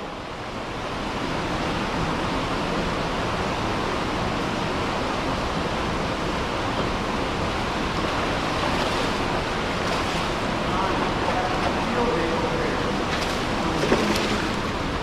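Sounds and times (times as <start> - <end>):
spillway water rushing: 0.0 - 15.0.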